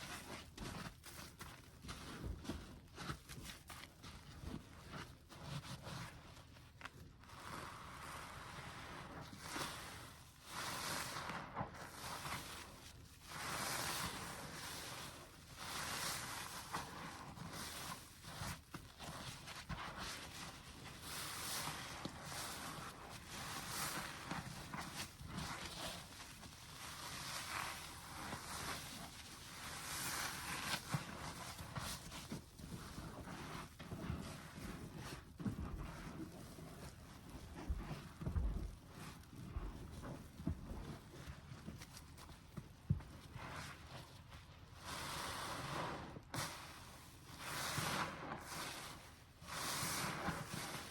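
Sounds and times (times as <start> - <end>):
soapy sponge squishing: 0.0 - 50.9.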